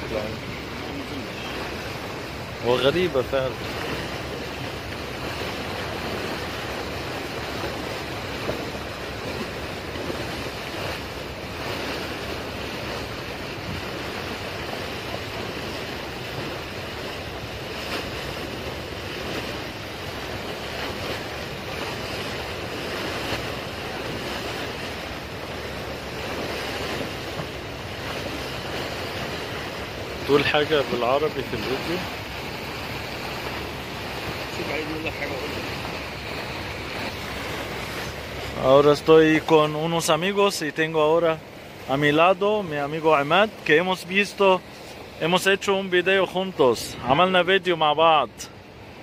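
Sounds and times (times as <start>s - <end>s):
choppy sea waves: 0.0s - 49.0s.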